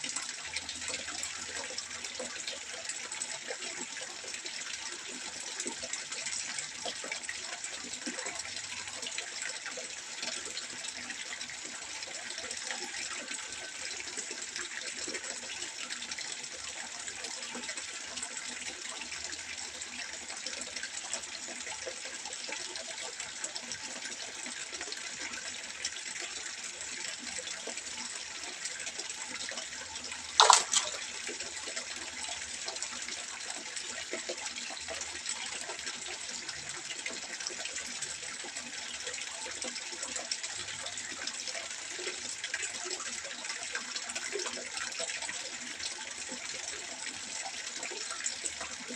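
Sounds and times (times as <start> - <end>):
water trickling into pond: 0.0 - 48.9.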